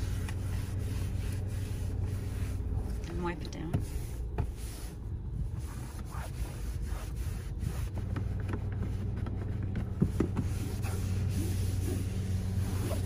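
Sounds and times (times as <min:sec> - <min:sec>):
cloth wiping plastic dashboard: 0:00.0 - 0:13.0
low steady hum: 0:00.0 - 0:13.0.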